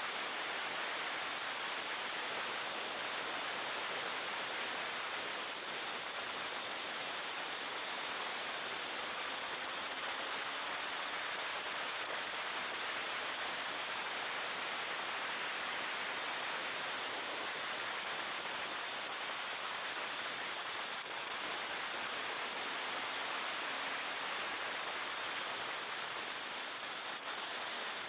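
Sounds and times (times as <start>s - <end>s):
rushing noise inside race car: 0.0s - 28.0s.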